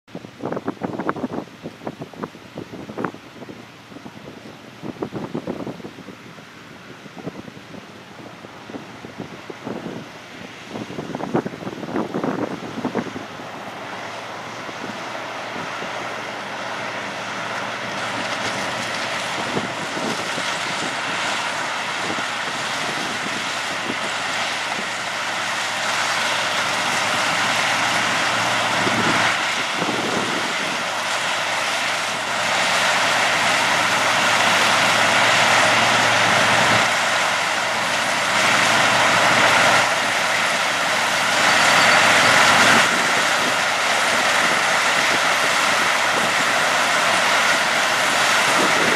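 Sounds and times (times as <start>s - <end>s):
diesel engine: 0.1s - 48.9s
harvester machinery noise: 0.2s - 48.9s.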